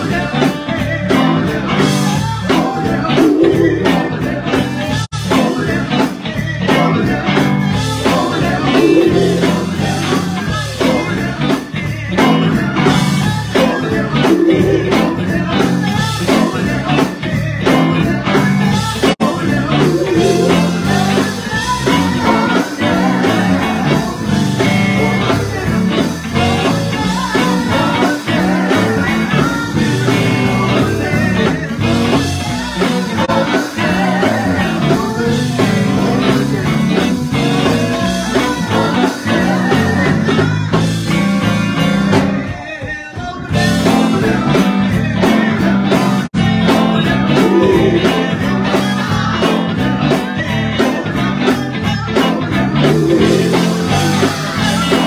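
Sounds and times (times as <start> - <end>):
woman singing lead: 0.0 - 41.2, 46.8 - 55.0
backing singers: 0.0 - 55.0
band with drums: 0.0 - 55.0.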